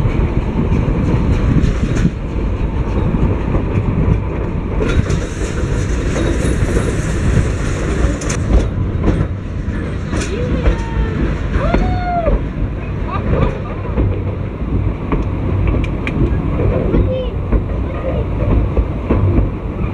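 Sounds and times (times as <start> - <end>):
rail clicks: 0.0 - 19.9
train wheels rumbling: 0.0 - 19.9.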